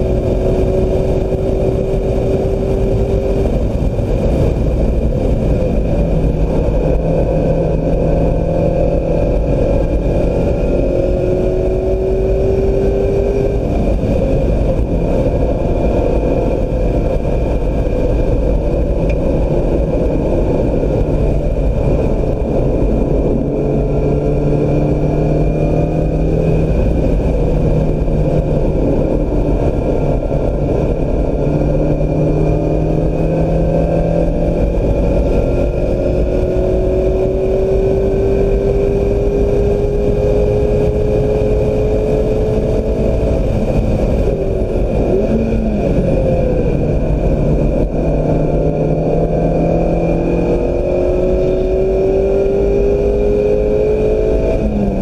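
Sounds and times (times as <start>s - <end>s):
car engine accelerating hard: 0.0s - 55.0s
roar of wind and tyres: 0.0s - 55.0s.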